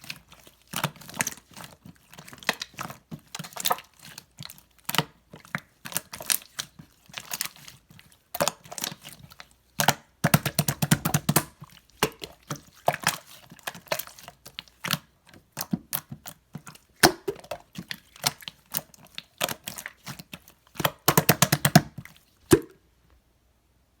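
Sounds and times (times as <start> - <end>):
slime squished by hand: 0.0 - 22.8.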